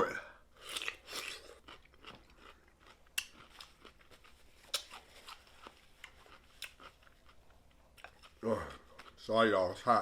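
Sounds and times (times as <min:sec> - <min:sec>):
soft chewing: 0:00.6 - 0:09.8.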